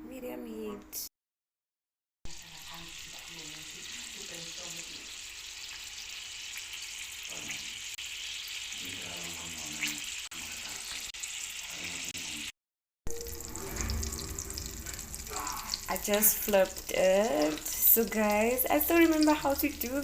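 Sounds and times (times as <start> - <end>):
batter sizzling in frying pan: 2.3 - 12.5, 13.1 - 20.0.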